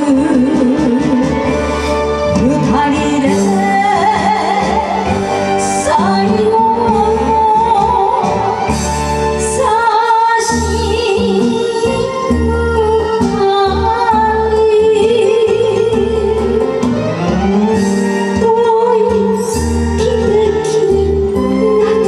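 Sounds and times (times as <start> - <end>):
woman singing into microphone: 0.0 - 1.7, 2.3 - 17.0, 17.8 - 22.0
instrumental backing music: 0.0 - 22.0.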